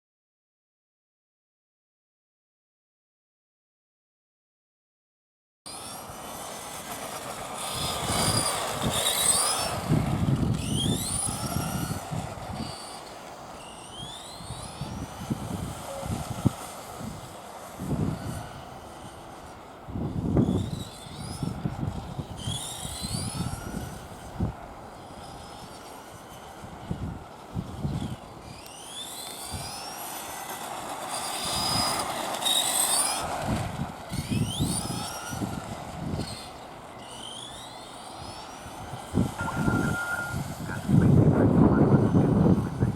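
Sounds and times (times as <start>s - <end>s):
electric motor and gearbox whining: 5.7s - 42.9s.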